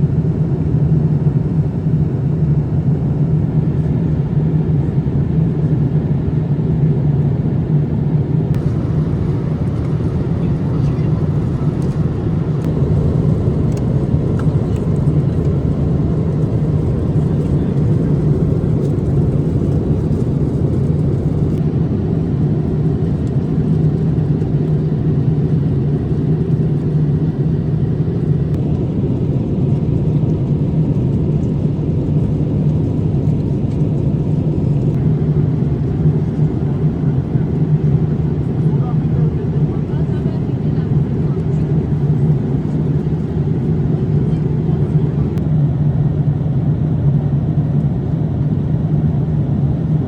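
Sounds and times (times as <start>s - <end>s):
airliner cabin noise: 0.0s - 50.0s.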